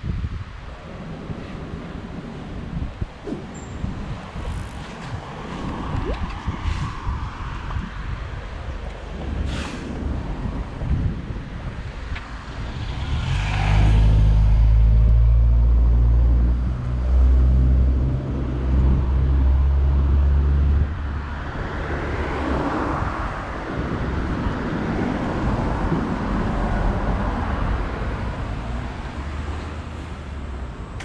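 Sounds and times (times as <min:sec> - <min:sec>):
car passing: 0:03.3 - 0:10.6, 0:12.3 - 0:31.0.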